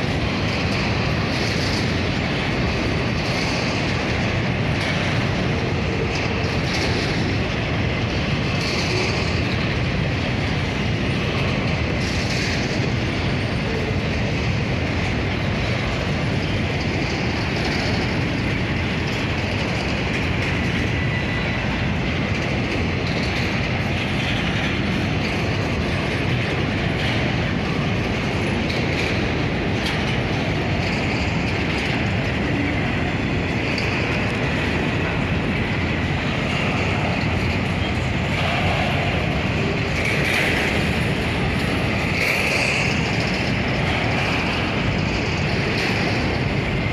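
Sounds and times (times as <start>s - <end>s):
freight train rolling past: 0.0s - 46.9s.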